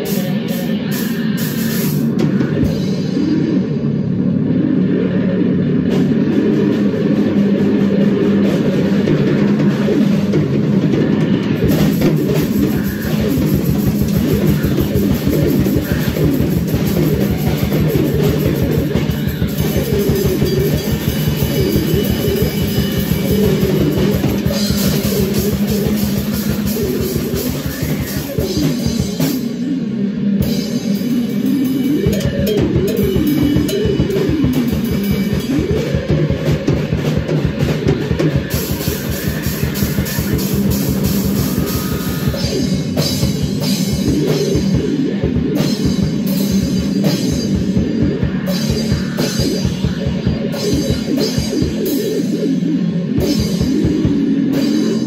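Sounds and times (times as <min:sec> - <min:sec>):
fast dense drumming: 0:00.0 - 0:55.0.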